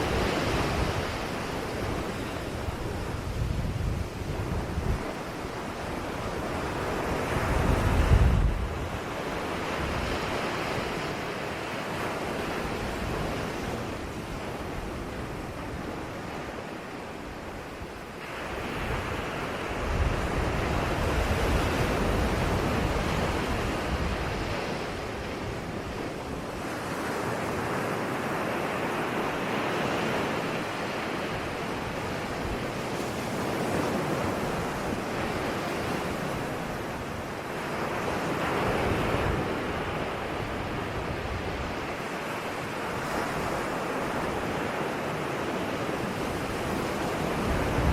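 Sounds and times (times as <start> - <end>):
ocean waves breaking: 0.0 - 47.9
wind buffeting microphone: 0.0 - 47.9.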